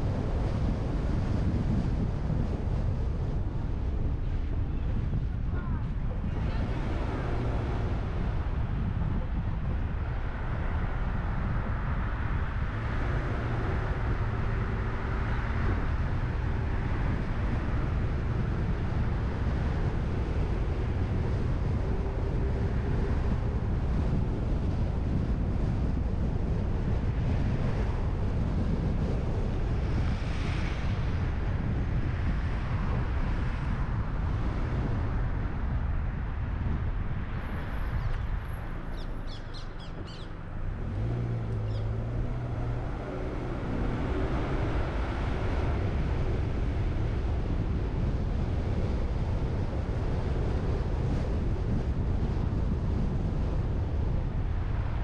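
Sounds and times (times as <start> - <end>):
low engine hum: 0.0 - 55.0
tyre and road noise: 0.0 - 55.0
wind on microphone: 0.0 - 55.0.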